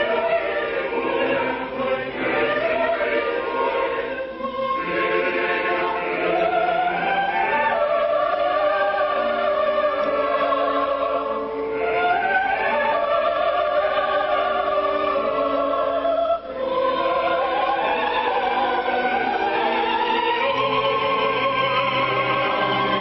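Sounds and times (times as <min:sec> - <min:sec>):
chorus and orchestra: 0:00.0 - 0:23.0
soprano singing opera: 0:00.0 - 0:23.0.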